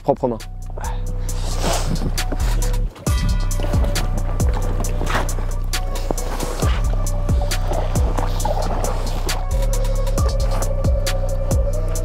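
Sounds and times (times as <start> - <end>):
electronic beat with bass kicks: 0.4 - 12.0.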